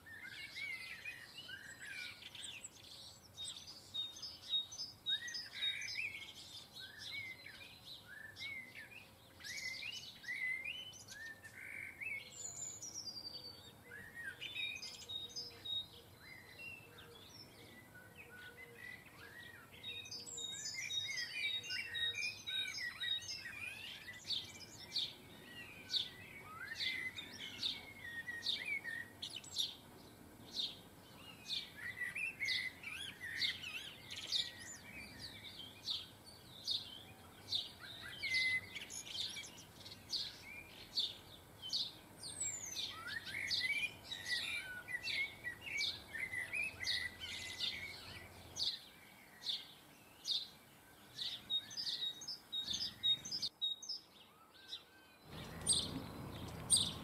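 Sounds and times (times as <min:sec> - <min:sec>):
songbirds chirping and twittering: 0:00.0 - 0:57.0.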